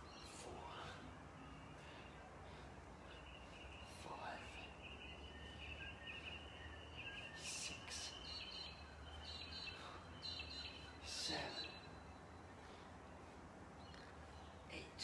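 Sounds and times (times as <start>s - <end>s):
birds chirping: 0.0s - 15.0s
low steady hum: 0.0s - 15.0s.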